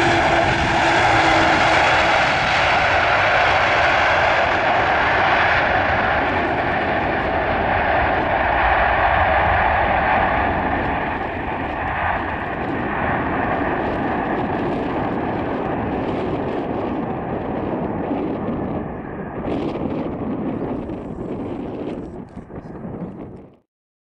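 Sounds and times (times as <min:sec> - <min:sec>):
jet engines rumbling and whining: 0:00.0 - 0:23.6.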